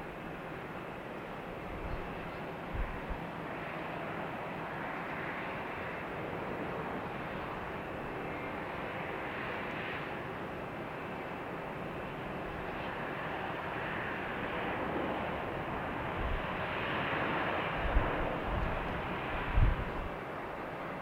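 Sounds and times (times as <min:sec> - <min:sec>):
aircraft engines rushing: 0:00.0 - 0:21.0.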